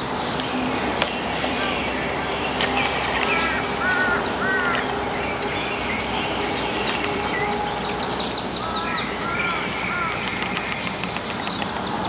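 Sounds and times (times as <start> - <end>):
steady outdoor hiss: 0.0 - 12.0
wild birds calling: 0.0 - 12.0.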